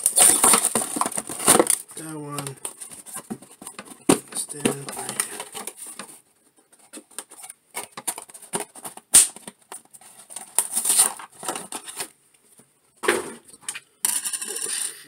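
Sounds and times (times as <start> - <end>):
hands handling cardboard box: 0.0 - 12.7.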